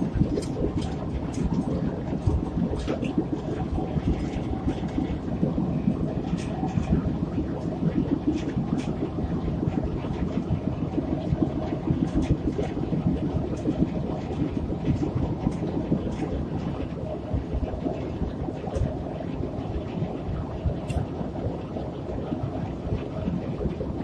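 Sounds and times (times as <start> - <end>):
locomotive rumble: 0.0 - 24.0
wheels clicking and knocking: 0.0 - 24.0.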